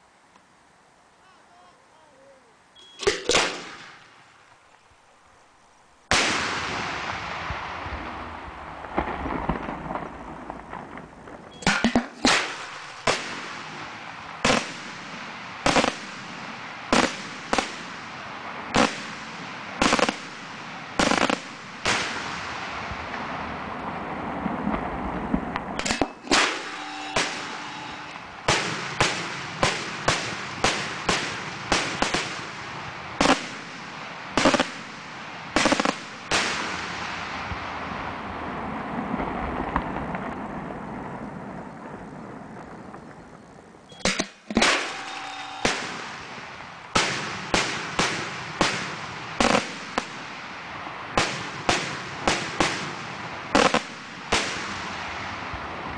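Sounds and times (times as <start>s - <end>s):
sharp firework bangs: 3.0s - 4.2s, 6.1s - 40.5s, 44.0s - 55.9s
firework bang with rolling tail: 6.1s - 43.4s, 44.1s - 55.9s.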